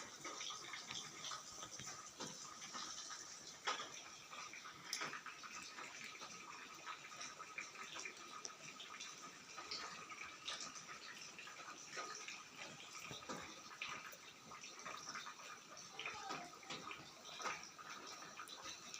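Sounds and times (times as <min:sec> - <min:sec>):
faint rain falling: 0:00.0 - 0:18.9
water drips: 0:00.0 - 0:18.9.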